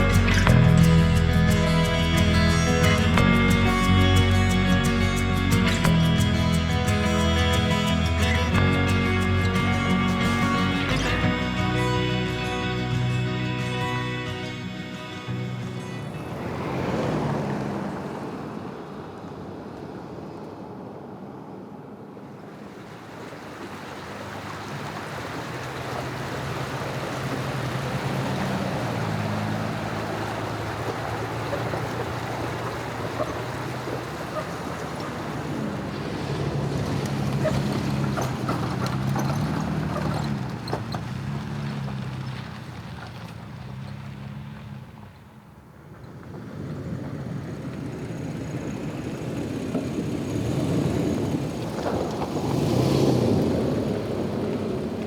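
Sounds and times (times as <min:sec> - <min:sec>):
vehicle rushing noise: 0:00.0 - 0:20.8, 0:22.6 - 0:45.4, 0:46.0 - 0:55.0.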